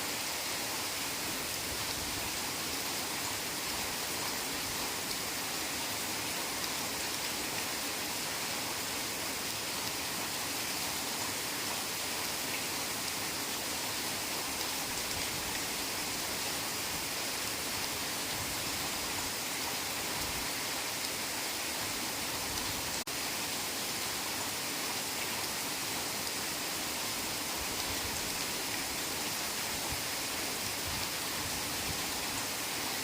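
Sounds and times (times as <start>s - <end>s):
heavy rain downpour: 0.0s - 33.0s.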